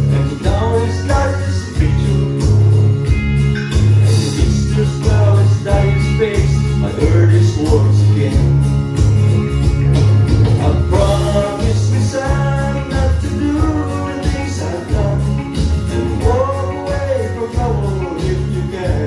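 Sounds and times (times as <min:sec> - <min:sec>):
man singing country song: 0:00.0 - 0:02.7, 0:03.6 - 0:08.6, 0:10.5 - 0:19.0
strummed acoustic guitar: 0:00.0 - 0:19.0.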